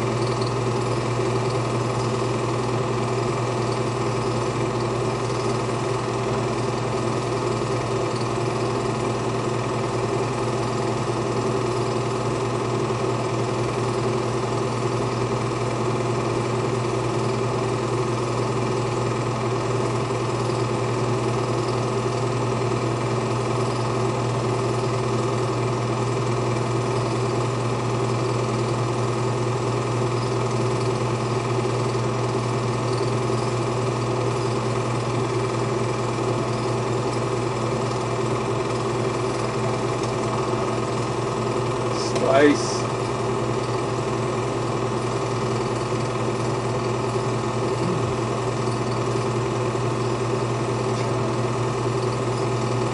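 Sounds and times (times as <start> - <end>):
film projector whirring: 0.0 - 52.9.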